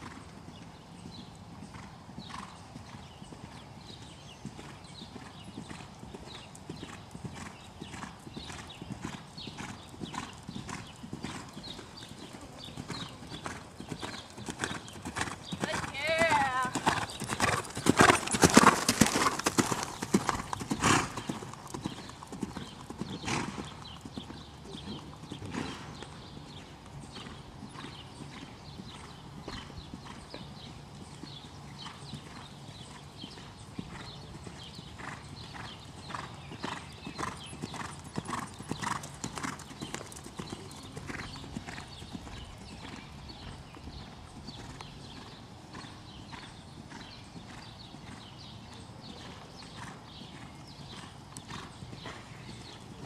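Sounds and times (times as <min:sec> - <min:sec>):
horse hoofbeats on sand: 0:04.6 - 0:48.3.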